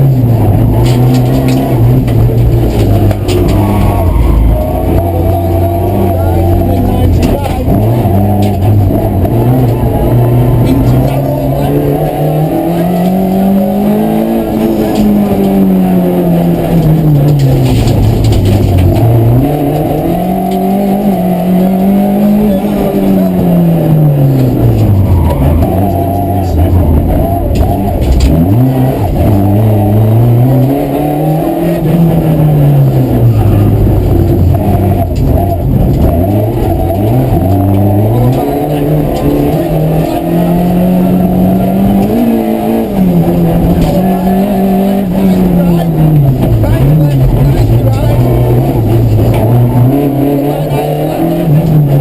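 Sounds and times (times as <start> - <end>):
rally car engine revving: 0.0 - 52.0.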